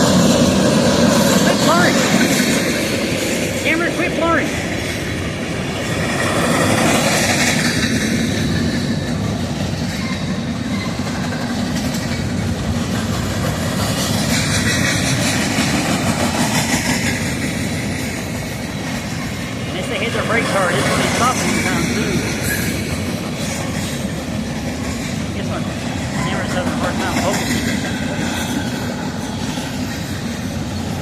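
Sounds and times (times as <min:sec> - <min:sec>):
freight train passing: 0:00.0 - 0:31.0.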